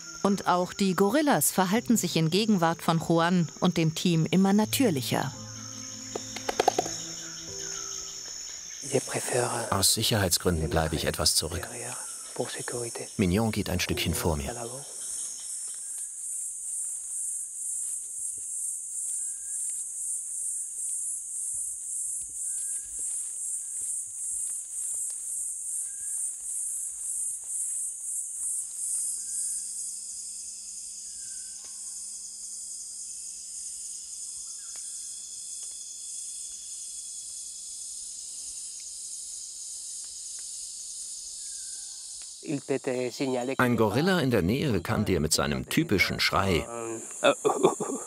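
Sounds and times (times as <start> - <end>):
insect chorus trilling: 0.0 - 48.0.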